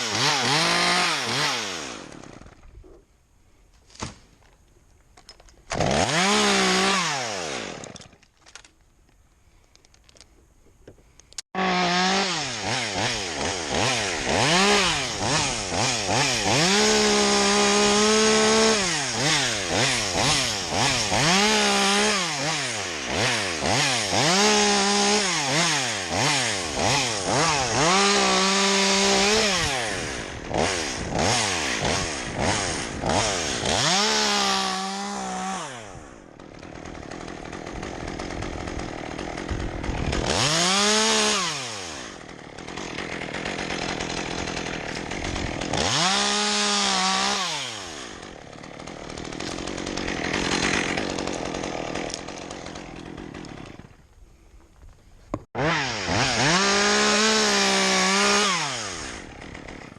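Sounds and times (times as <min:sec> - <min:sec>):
chainsaw revving: 0:00.0 - 0:02.7, 0:05.7 - 0:08.2, 0:11.6 - 0:54.0, 0:55.5 - 0:59.9.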